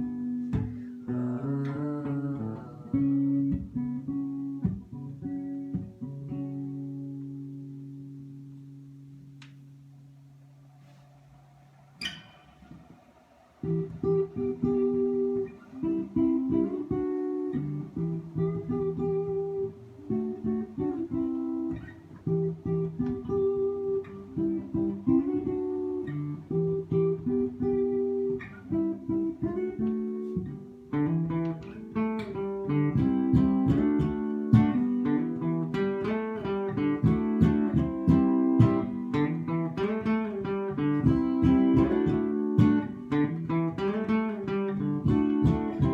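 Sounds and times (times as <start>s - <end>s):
acoustic guitar playing: 0.0s - 45.9s.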